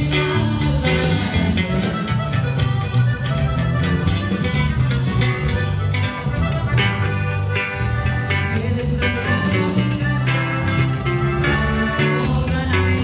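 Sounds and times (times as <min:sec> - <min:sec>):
bass line: 0:00.0 - 0:13.0
button accordion: 0:00.0 - 0:13.0
drums: 0:00.0 - 0:13.0.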